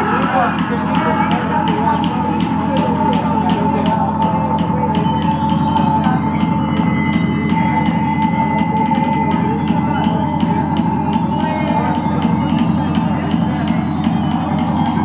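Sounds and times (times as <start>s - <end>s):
psytrance over sound system: 0.0s - 15.0s.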